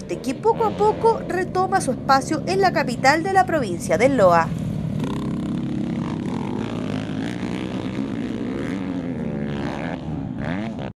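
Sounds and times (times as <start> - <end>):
dirt bike engines revving: 0.0 - 10.9.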